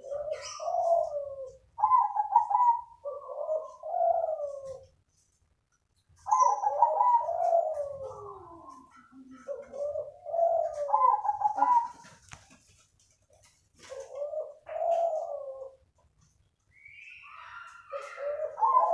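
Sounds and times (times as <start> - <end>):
dove cooing: 0.0 - 5.0, 6.2 - 12.3, 13.8 - 16.0, 16.9 - 18.9.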